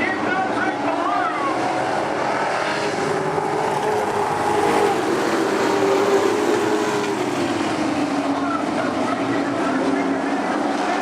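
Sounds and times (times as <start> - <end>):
race truck engines droning: 0.0 - 11.0.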